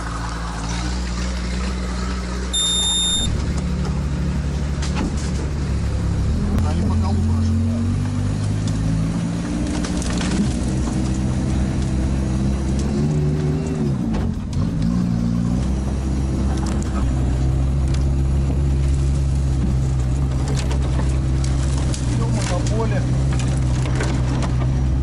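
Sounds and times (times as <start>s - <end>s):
vehicle engine running under load: 0.0s - 25.0s.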